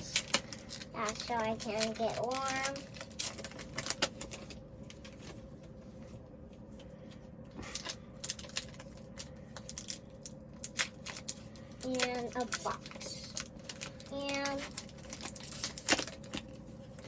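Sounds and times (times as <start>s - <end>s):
foil packs crinkling: 0.0s - 5.5s, 7.6s - 17.0s
faint steady hum: 0.0s - 17.0s.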